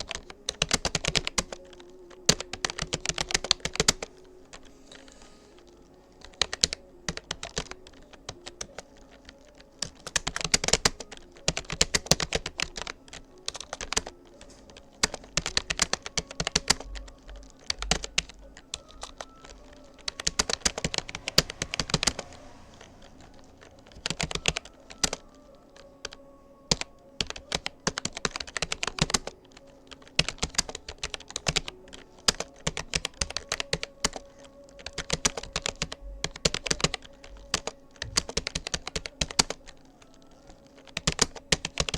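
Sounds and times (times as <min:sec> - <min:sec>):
computer keyboard typing: 0:00.0 - 0:41.9.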